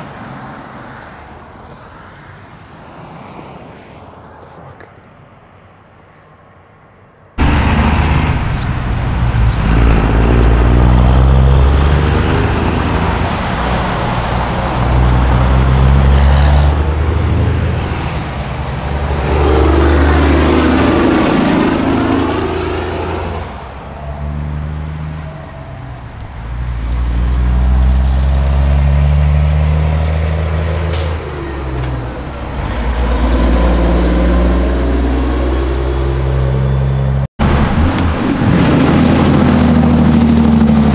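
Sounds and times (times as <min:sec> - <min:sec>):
diesel truck engines passing: 0:00.0 - 0:40.9.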